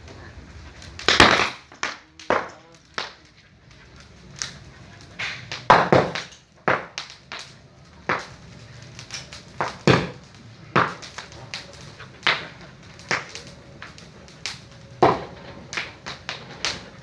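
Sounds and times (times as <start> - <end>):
bonfire popping and cracking: 0.0 - 17.0.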